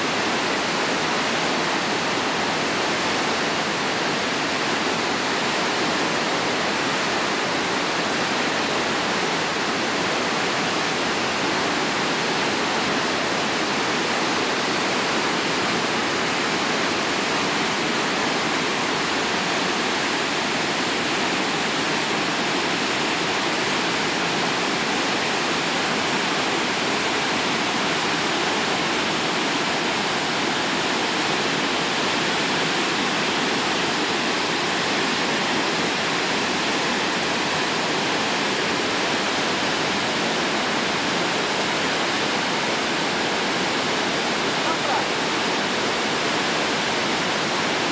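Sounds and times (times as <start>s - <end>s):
river rushing through rapids: 0.0s - 47.9s.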